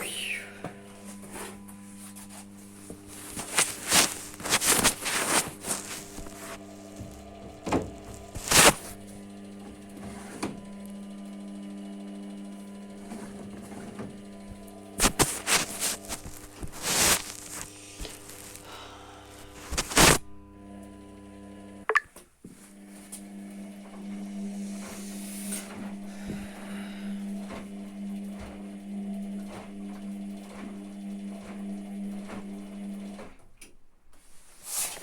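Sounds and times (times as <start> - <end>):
washing machine motor hum: 0.0 - 21.9, 22.5 - 33.6.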